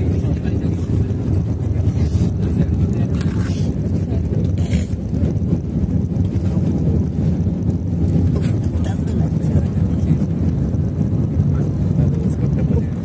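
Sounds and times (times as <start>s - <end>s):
airliner cabin low rumble: 0.0s - 13.0s.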